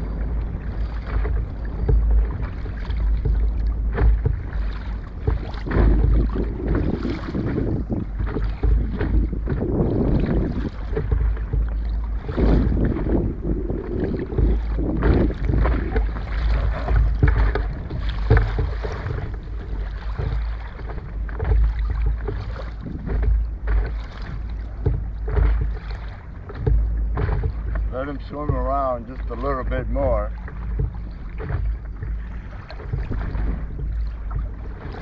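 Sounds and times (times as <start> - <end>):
water lapping against boat: 0.0 - 35.0
wind buffeting microphone: 0.0 - 35.0.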